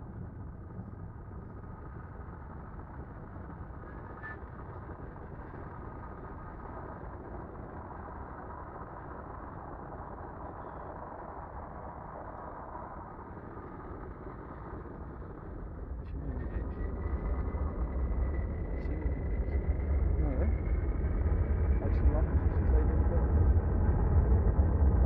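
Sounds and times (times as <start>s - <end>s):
faint rising whine: 0.0s - 25.0s.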